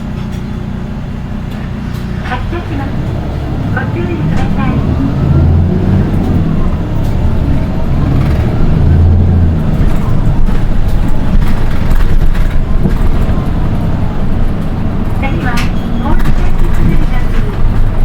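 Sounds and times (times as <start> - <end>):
bus diesel engine drone: 0.0 - 18.0
high-pitched engine whine: 0.0 - 18.0.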